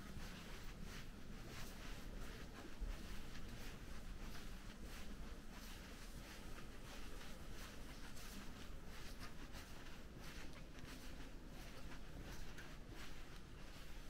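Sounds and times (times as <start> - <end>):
soft rustling: 0.0 - 14.0.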